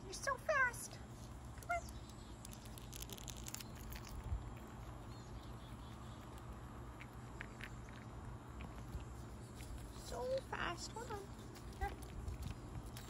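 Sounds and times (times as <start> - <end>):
low steady rumble: 0.0 - 13.0
chipmunk clicks and scratches: 1.1 - 13.0.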